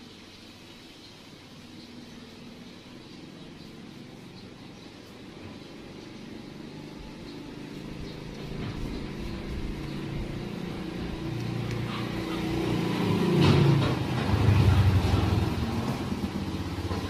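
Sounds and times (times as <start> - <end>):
vehicle engine approaching: 0.9 - 17.0.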